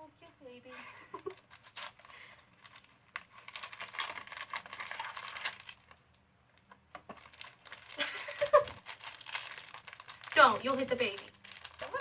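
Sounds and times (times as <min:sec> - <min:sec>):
plastic packaging crinkling: 0:01.1 - 0:06.2, 0:06.9 - 0:12.0.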